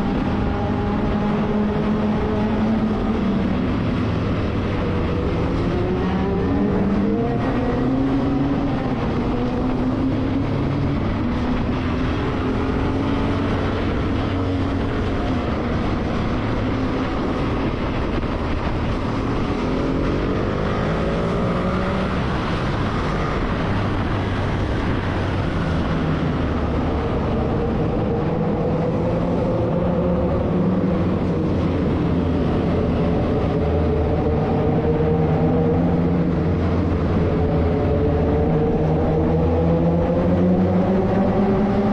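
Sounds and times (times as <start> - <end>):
road and wind noise: 0.0 - 41.9.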